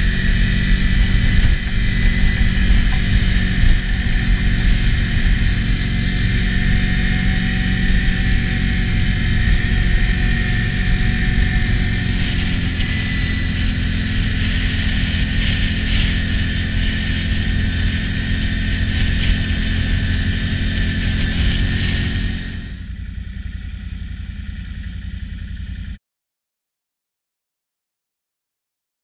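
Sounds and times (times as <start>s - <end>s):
atv engine rumble: 0.0s - 26.0s
high whine: 0.0s - 26.0s.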